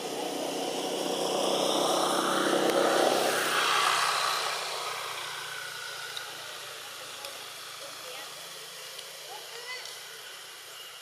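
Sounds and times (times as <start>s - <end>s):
motor vehicle passing by: 0.0s - 10.8s.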